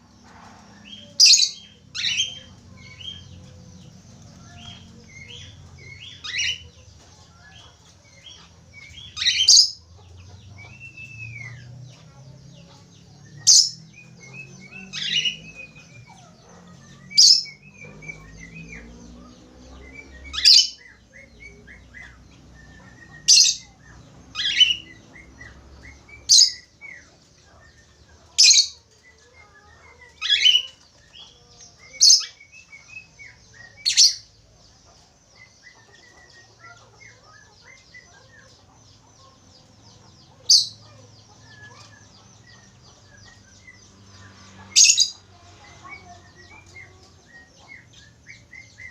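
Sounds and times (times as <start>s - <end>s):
budgerigar soft chatter: 0.2s - 48.9s.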